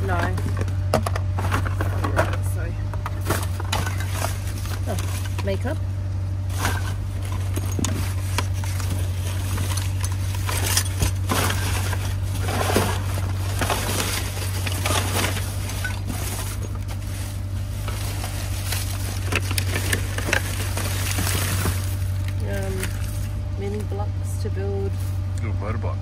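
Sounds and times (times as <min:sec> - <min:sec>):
items knocking and clattering: 0:00.0 - 0:05.7, 0:06.5 - 0:17.2, 0:17.8 - 0:23.3
rustling of packaging: 0:00.0 - 0:05.8, 0:06.5 - 0:23.4
steady low hum: 0:00.0 - 0:26.0.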